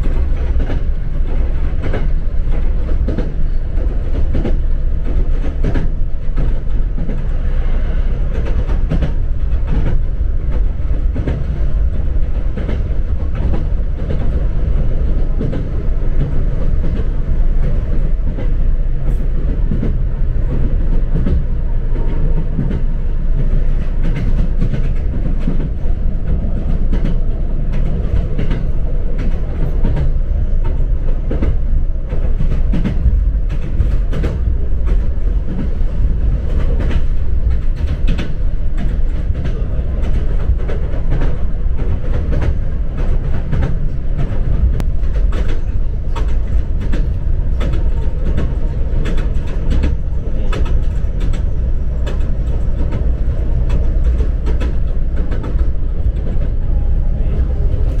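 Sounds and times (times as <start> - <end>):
train wheels rumbling on rails: 0.0 - 58.0
wheels clicking over rail joints: 0.0 - 58.0.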